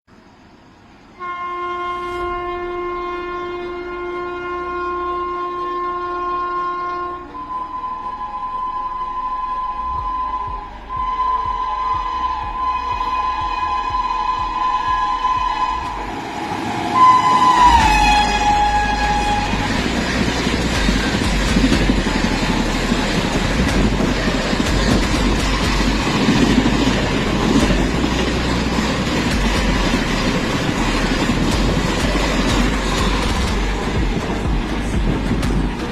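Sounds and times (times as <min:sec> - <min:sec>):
train coaches rushing past: 0:00.2 - 0:35.9
train horn: 0:01.2 - 0:34.9
wheels clacking on rails: 0:06.8 - 0:35.9.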